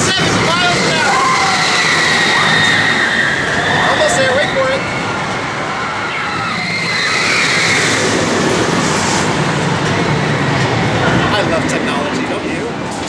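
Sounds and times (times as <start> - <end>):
rising electric whine: 0.0 - 11.5
roller coaster rumbling on track: 0.0 - 13.0.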